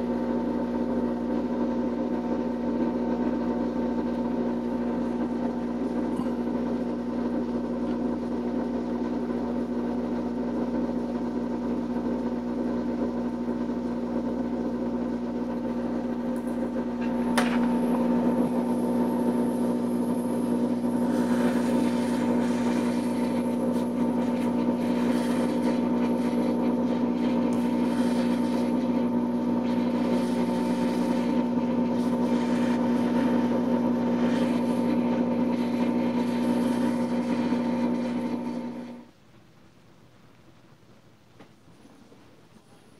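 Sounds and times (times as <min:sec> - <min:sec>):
small fan humming: 0:00.0 - 0:42.9.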